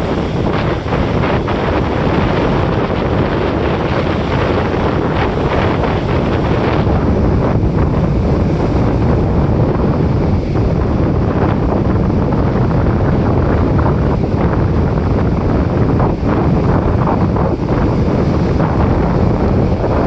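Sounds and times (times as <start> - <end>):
waves breaking on a beach: 0.0 - 20.0
wind buffeting microphone: 0.0 - 20.0.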